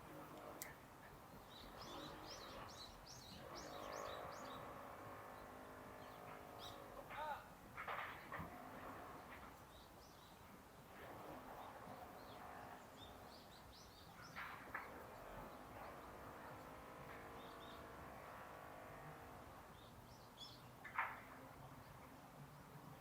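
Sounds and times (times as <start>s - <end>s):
small birds chirping: 0.0s - 7.4s, 8.1s - 18.0s, 19.2s - 23.0s.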